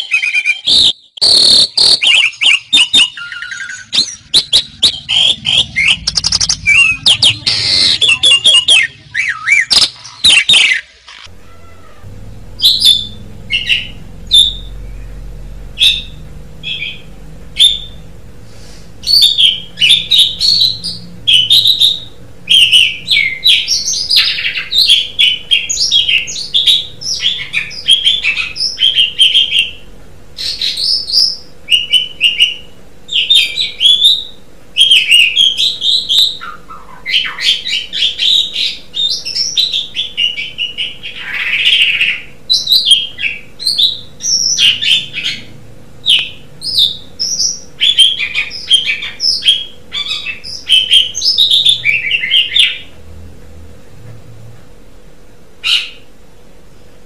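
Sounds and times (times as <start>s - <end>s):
starling singing: 0.0s - 18.1s, 19.0s - 52.9s
faint steady hum: 0.1s - 57.0s.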